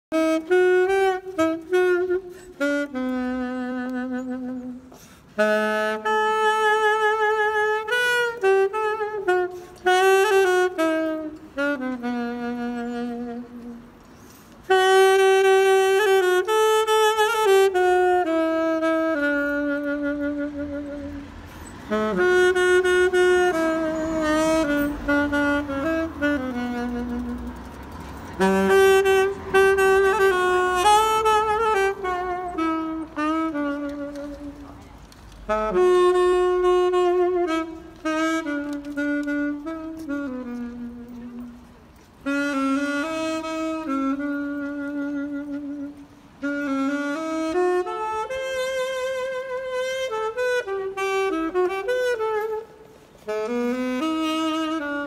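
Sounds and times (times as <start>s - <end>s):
solo saxophone melody: 0.1s - 55.0s.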